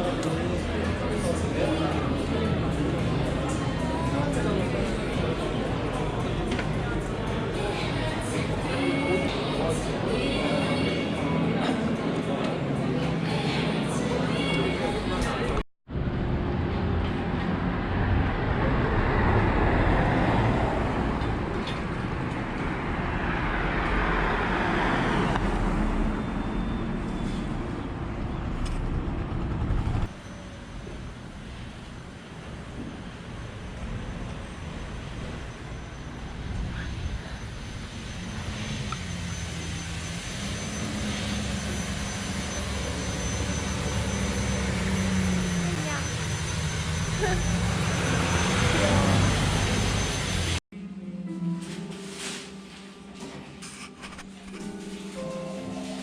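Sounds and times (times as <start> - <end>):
road traffic rumble: 0.0 - 50.6
vehicles passing: 0.0 - 50.6.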